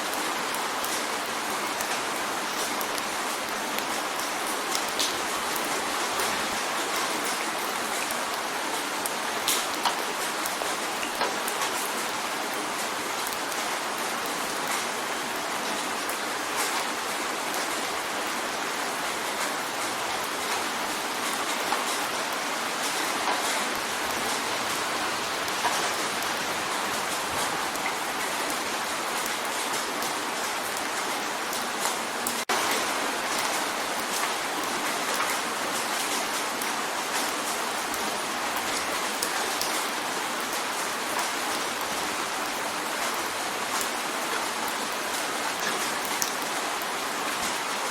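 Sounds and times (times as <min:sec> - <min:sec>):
rain drumming on a window: 0:00.0 - 0:47.9.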